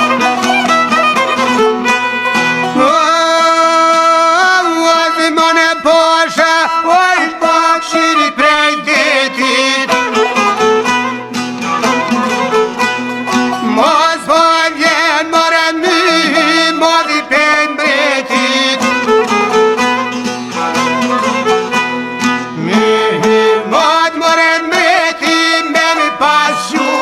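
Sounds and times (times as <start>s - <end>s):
folk song with fiddle melody: 0.0s - 27.0s.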